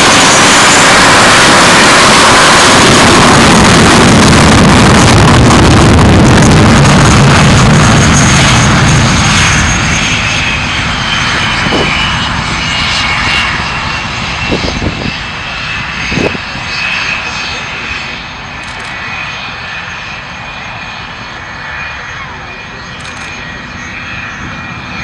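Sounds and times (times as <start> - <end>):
jet engines roaring with whine: 0.0 - 25.0.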